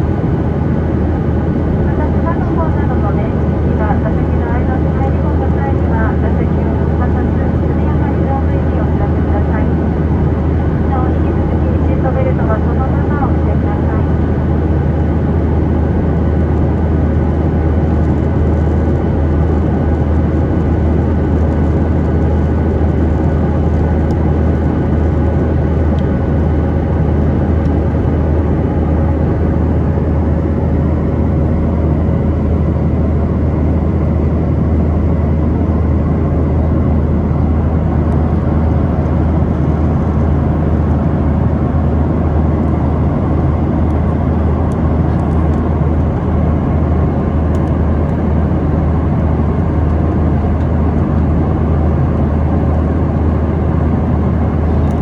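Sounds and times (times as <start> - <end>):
airliner cabin engine drone: 0.0 - 55.0
faint steady hum tones: 0.0 - 55.0.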